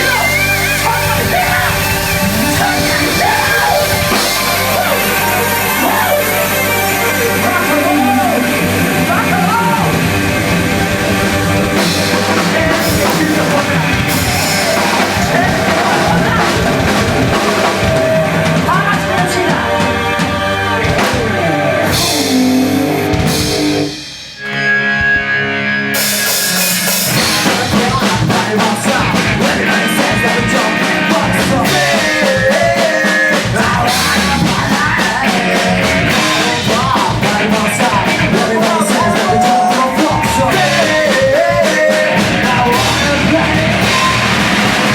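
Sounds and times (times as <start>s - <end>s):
person singing: 0.0s - 23.1s, 27.0s - 44.9s
distorted guitars: 0.0s - 44.9s
drums: 0.0s - 44.9s
loud fast rock band: 0.0s - 44.9s.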